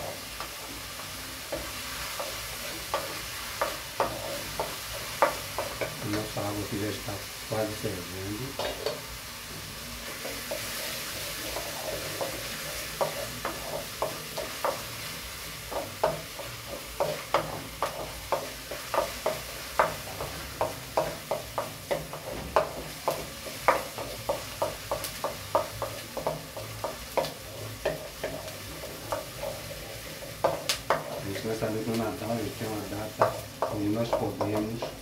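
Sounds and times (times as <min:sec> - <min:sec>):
onion sizzling in pan: 0:00.0 - 0:35.0.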